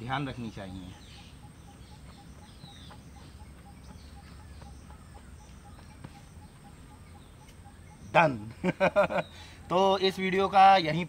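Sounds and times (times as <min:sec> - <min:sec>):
bird chirps: 0:00.0 - 0:11.0.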